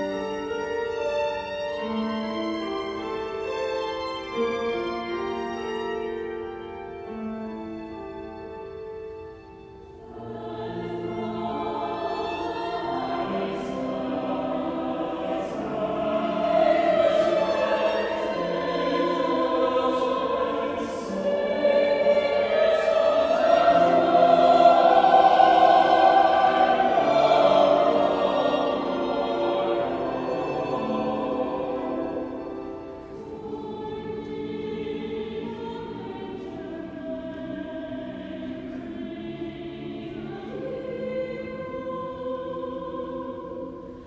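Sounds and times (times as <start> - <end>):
mixed choir singing: 0.0 - 4.7, 10.0 - 44.0.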